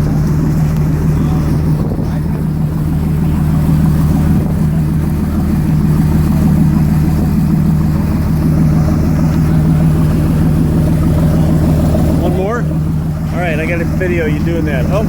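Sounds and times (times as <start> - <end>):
boat engine running low hum: 0.0 - 15.0.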